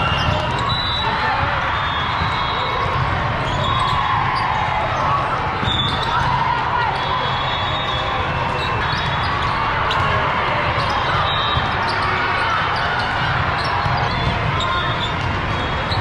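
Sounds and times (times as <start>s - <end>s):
volleyballs hit and bouncing: 0.0s - 6.7s, 8.0s - 16.0s
din of many voices: 0.0s - 16.0s.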